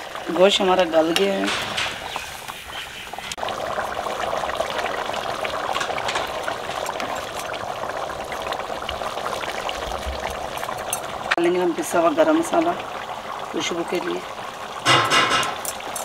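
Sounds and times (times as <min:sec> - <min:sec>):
curry bubbling and sizzling: 0:00.0 - 0:16.0.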